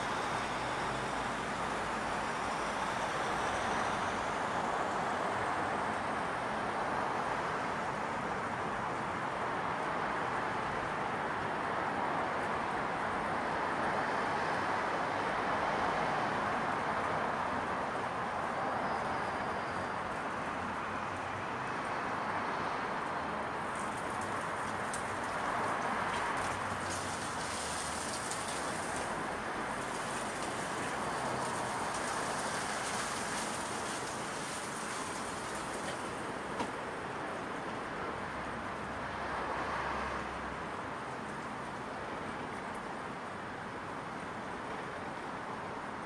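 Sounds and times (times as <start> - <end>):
distant traffic hum: 0.0 - 46.0.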